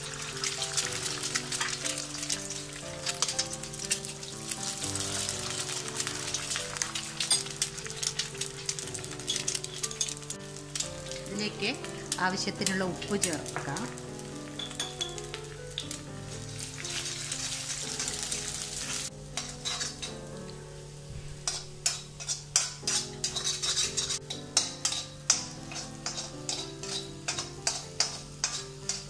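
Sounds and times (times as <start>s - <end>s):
spatula scraping and knocking wok: 0.0s - 20.3s, 21.1s - 29.0s
eggs sizzling in hot oil: 0.0s - 29.0s.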